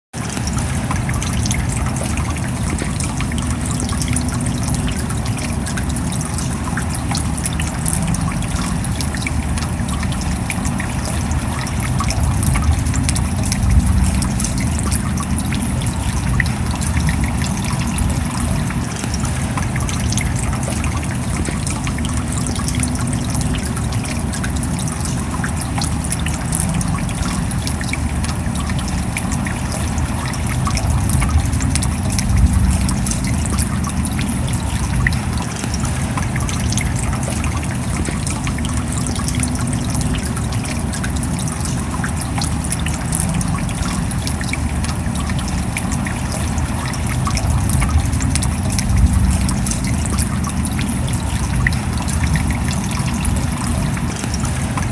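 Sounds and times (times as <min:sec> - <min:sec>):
steady rain: 0:00.2 - 0:54.9.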